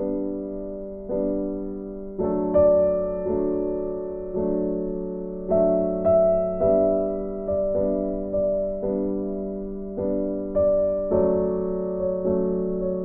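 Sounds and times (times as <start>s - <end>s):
soft electric piano chords: 0.0s - 13.0s.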